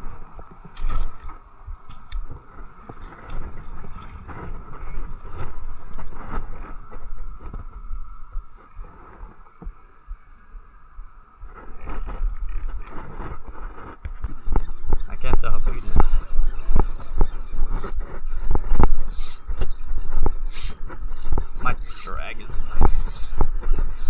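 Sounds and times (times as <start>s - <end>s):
water along rocky shore: 0.0s - 24.0s
wind rumbling on microphone: 0.0s - 24.0s.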